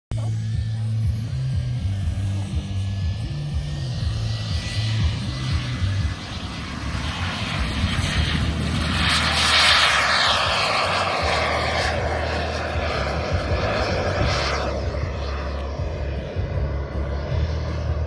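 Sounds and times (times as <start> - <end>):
model jet turbine engine whine: 0.1 - 18.0.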